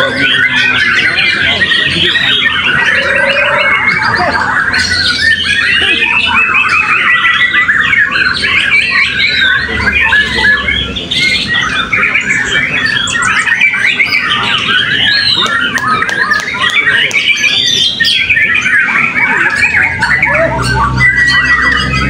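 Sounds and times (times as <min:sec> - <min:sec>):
birds singing in chorus: 0:00.0 - 0:22.0.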